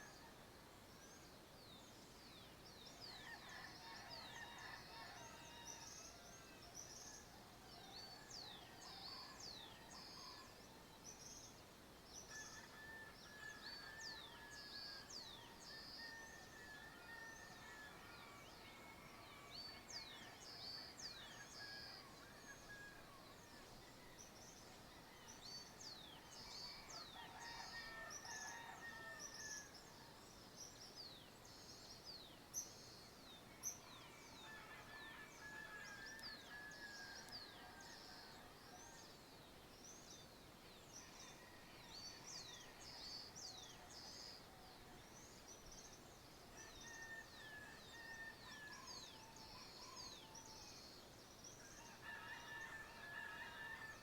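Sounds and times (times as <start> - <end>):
dawn chorus of birds: 0.0 - 54.0.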